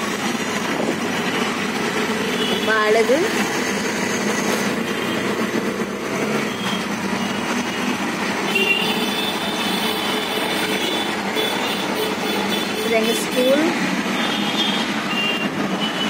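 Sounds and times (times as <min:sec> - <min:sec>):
auto-rickshaw engine running: 0:00.0 - 0:16.0
road noise: 0:00.0 - 0:16.0.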